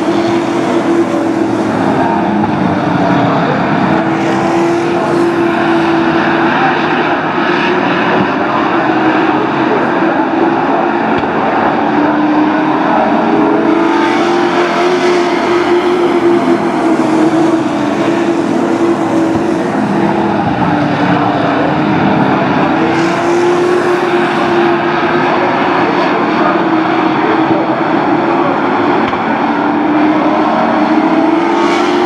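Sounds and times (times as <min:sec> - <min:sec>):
race truck engines droning: 0:00.0 - 0:32.0.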